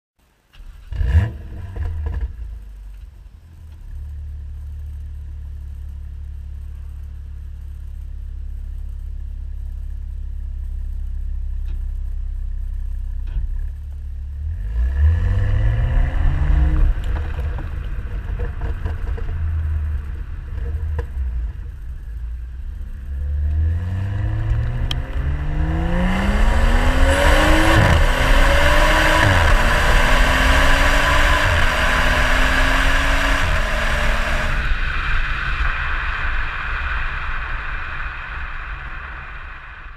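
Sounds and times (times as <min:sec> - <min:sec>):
car engine starting and revving: 0:00.5 - 0:39.9.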